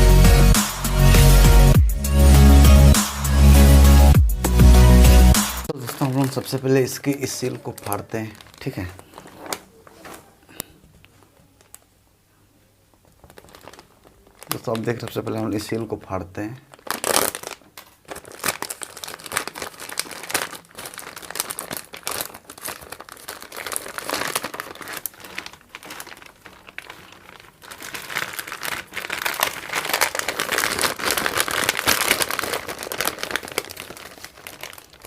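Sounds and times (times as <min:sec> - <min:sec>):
packaging crinkling and tearing: 0:05.6 - 0:11.8, 0:12.9 - 0:35.0.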